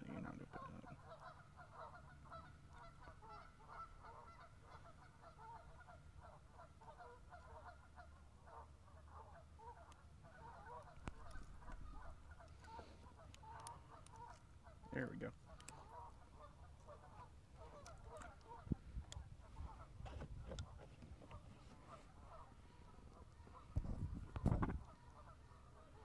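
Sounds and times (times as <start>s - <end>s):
flock of birds calling: 0.0s - 26.0s.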